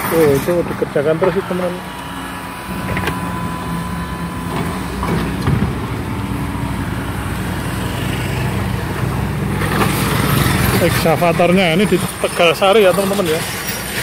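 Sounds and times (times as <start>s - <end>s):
motorcycle passing: 1.2s - 13.4s.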